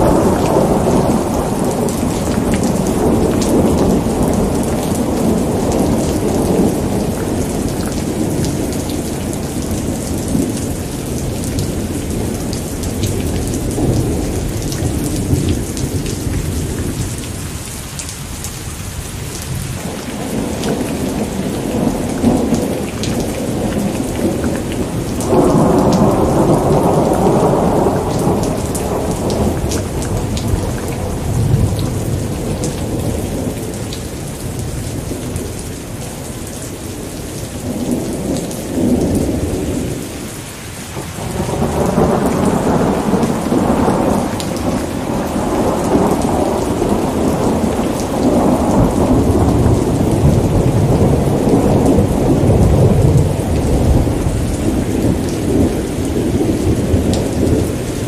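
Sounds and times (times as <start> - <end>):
rolling thunder: 0.0 - 17.6, 19.4 - 35.6, 41.0 - 58.0
heavy rain: 0.0 - 58.0.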